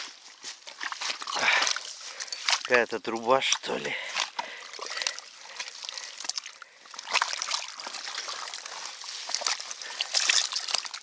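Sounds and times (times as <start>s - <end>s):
crackles and scrapes: 0.0s - 6.4s, 7.1s - 11.0s
wet mud squelching: 0.0s - 11.0s.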